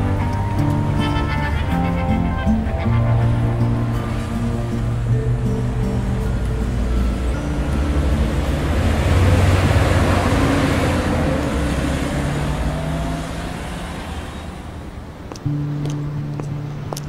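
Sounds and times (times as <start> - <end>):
road hiss: 0.0 - 15.8
bus engine rumble: 0.0 - 17.0.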